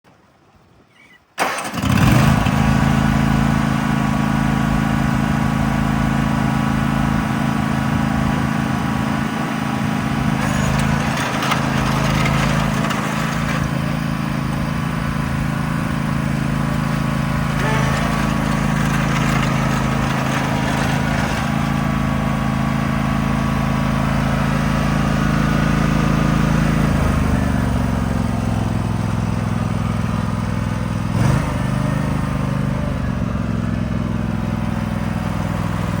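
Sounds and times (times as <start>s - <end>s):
ride-on lawn mower engine: 0.1s - 36.0s.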